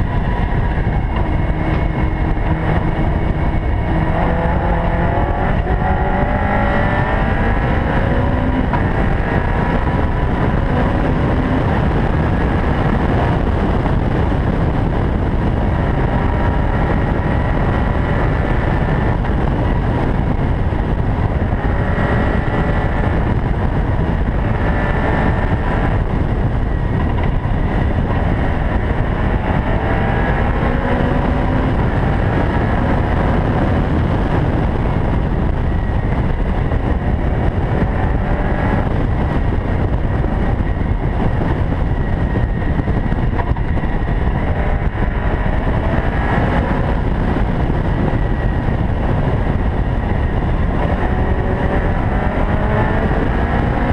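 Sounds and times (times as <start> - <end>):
car engine pulling hard: 0.0 - 53.9
wind and road noise: 0.0 - 53.9.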